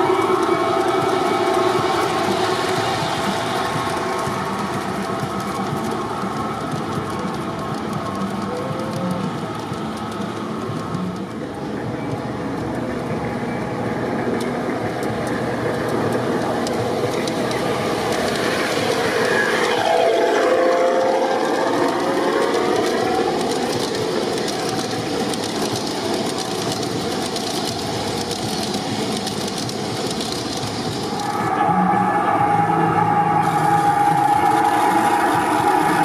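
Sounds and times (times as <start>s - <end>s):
model train wheels clicking on rails: 0.0s - 31.9s, 33.3s - 36.0s.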